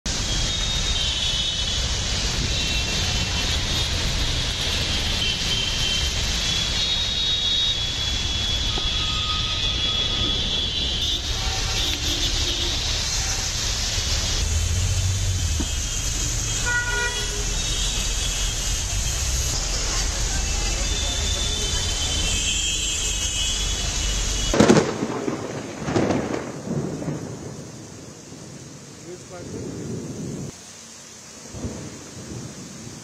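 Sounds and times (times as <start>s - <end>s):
heavy rain hissing: 0.1s - 33.0s
traffic rumble: 0.1s - 33.0s.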